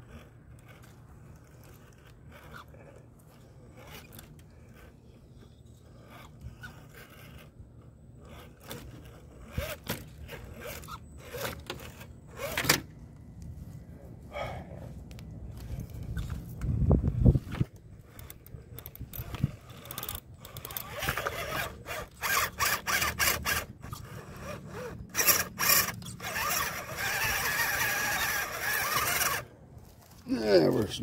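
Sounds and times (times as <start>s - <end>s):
toy truck scraping on wood: 0.0s - 12.9s, 15.6s - 30.8s.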